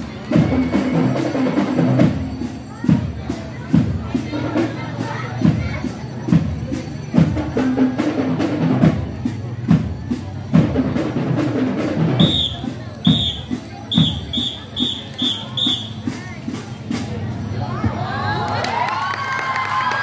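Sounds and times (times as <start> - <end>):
marching drum and bell-lyre band: 0.0 - 18.4.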